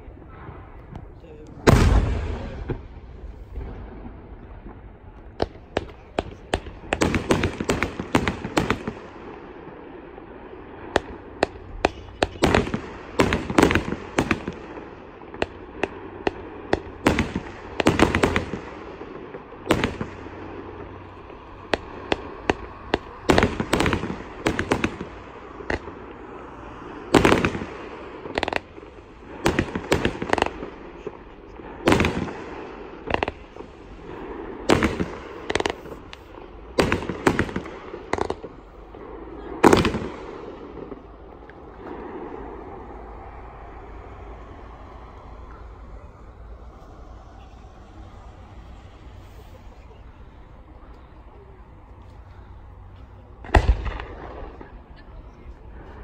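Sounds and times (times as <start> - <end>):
continuous hiss: 0.0 - 56.0
fireworks bangs: 0.0 - 56.0.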